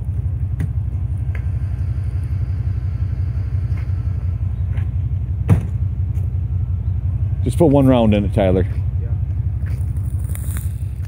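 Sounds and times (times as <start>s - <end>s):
low rumble on microphone: 0.0s - 11.0s.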